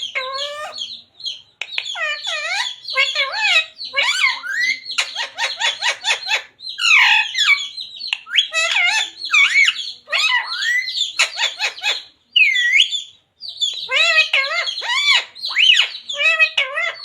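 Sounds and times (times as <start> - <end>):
parrot chattering and squawking: 0.0 - 1.0, 1.6 - 17.0.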